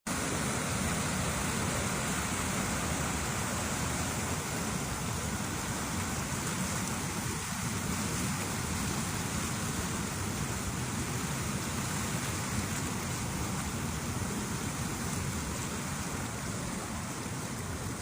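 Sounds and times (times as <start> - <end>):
flowing water: 0.1 - 18.0.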